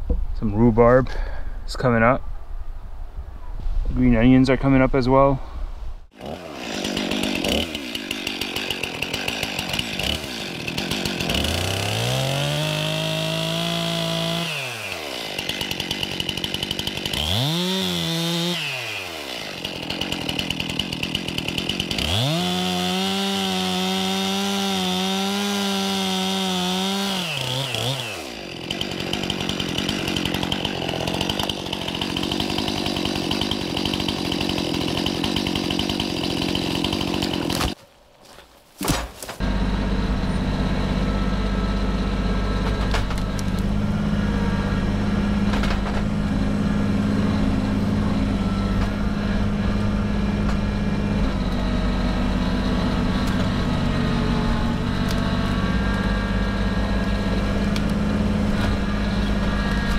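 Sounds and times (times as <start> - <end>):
chainsaw idling and revving: 6.1 - 37.8, 39.4 - 59.9.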